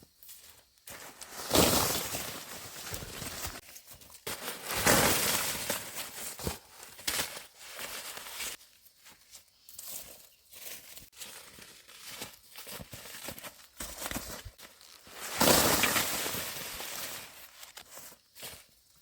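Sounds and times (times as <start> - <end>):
dry corn leaves rustling: 0.0 - 19.0.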